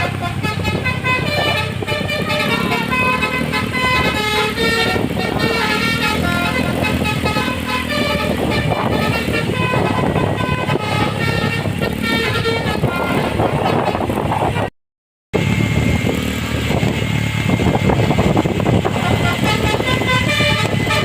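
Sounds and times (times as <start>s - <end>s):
engine and road noise: 0.0s - 14.7s, 15.3s - 21.0s
musical bus horn playing a tune: 0.0s - 14.7s, 18.0s - 21.0s.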